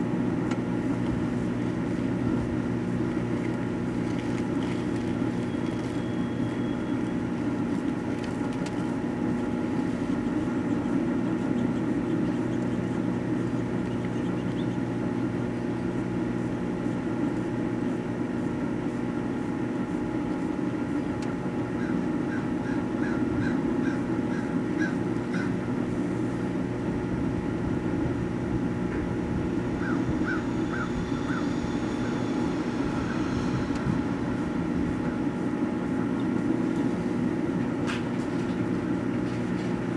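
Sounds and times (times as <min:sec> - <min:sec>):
microwave oven electrical hum: 0:00.0 - 0:39.9.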